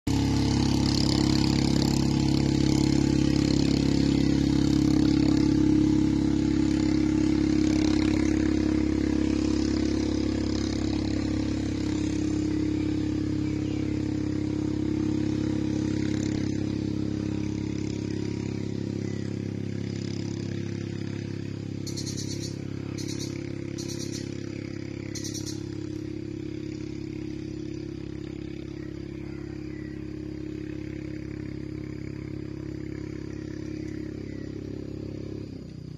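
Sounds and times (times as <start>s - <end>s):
motor engine running: 0.0s - 35.9s.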